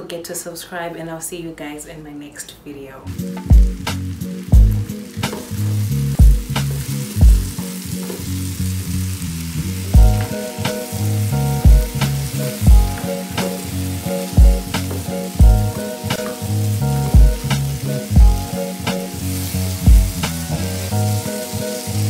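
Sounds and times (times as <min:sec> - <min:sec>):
background music with steady beat: 0:03.1 - 0:22.0
vegetables sizzling in a frying pan: 0:03.1 - 0:22.0.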